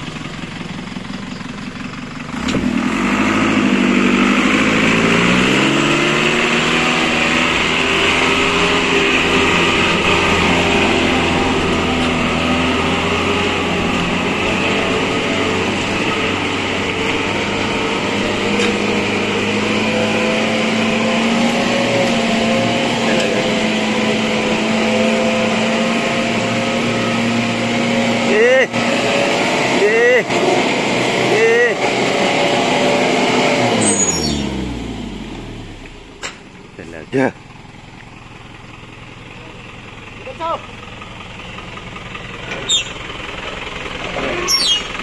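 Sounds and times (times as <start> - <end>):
truck engine running hard: 0.0 - 45.0.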